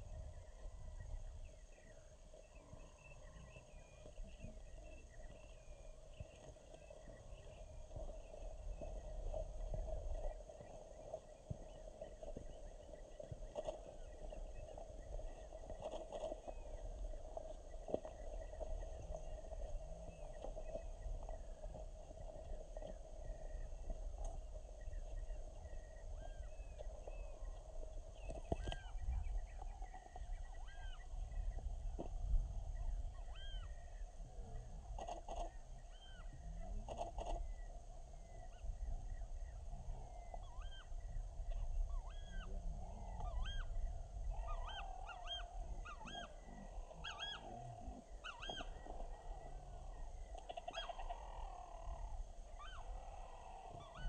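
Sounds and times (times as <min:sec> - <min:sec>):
distant birds chirping: 0:00.1 - 0:54.0.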